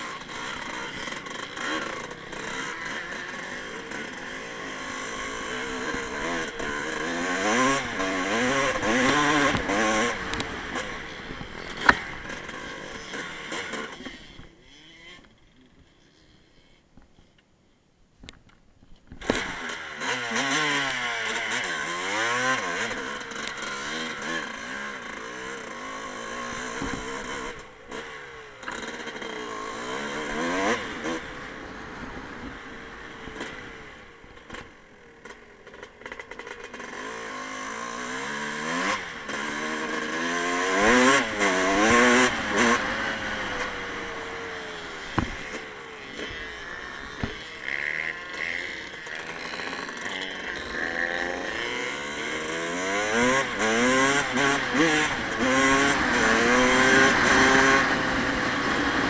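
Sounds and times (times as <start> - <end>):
motocross bike engine revving: 0.0 - 16.8, 19.2 - 59.0.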